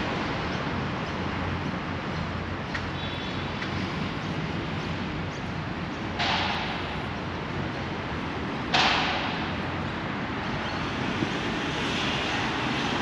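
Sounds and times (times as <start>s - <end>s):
distant road traffic: 0.0s - 13.0s.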